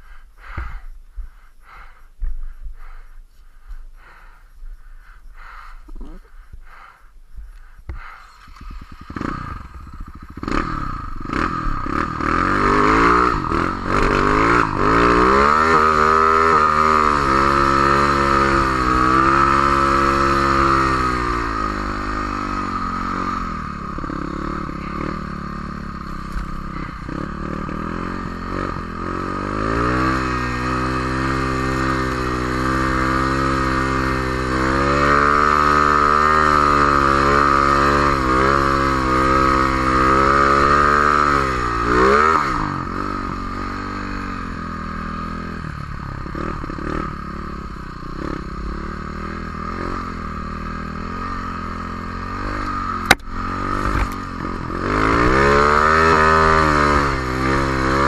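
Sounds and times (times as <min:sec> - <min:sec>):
snowmobile engine revving: 0:08.0 - 0:58.0.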